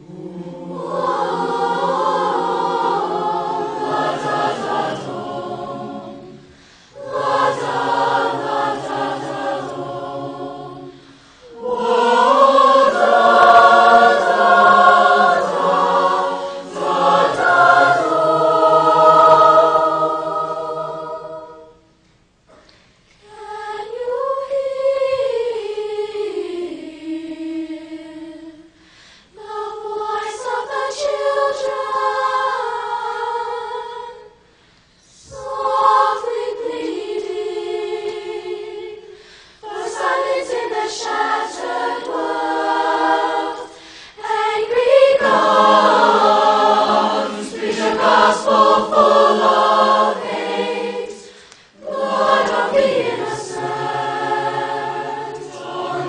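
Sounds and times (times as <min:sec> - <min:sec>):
choir singing held chords: 0:00.0 - 0:22.0, 0:23.2 - 0:56.0.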